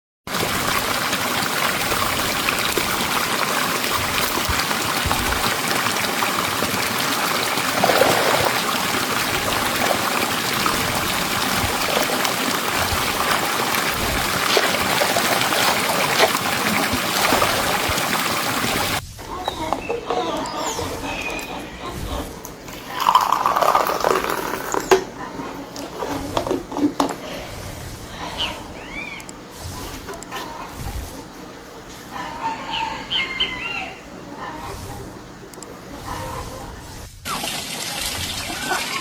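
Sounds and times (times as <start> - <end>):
running water rushing: 0.3 - 39.0
water splashes: 0.3 - 39.0.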